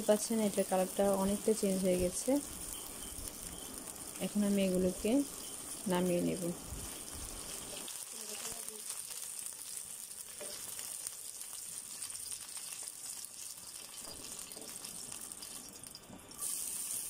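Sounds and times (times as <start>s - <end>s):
hot oil sizzling in a frying pan: 0.0s - 17.0s.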